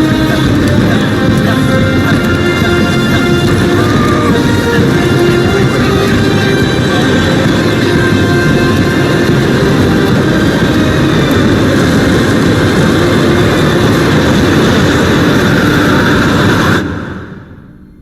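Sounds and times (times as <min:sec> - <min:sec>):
blizzard wind blowing hard: 0:00.0 - 0:18.0.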